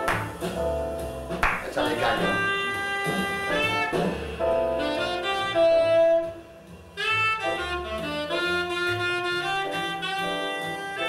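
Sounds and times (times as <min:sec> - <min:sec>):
jazz horn melody: 0:00.0 - 0:11.0.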